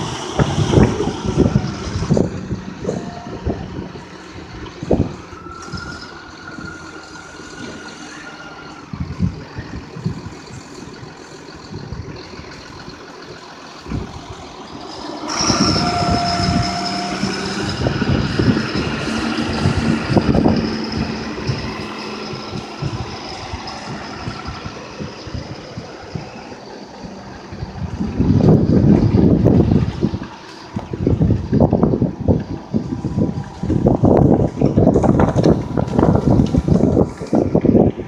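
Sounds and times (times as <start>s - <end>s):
spreader high whine: 0.0s - 38.0s
tractor diesel engine running: 0.0s - 38.0s.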